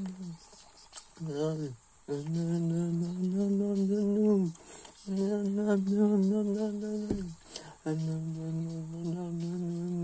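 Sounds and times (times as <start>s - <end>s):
man humming low note: 1.2s - 10.0s.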